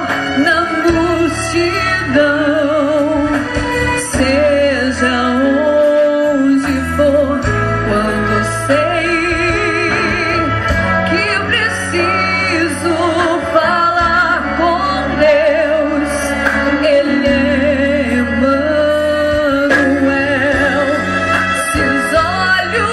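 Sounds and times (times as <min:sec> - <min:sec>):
orchestra playing slow hymn: 0:00.0 - 0:22.9.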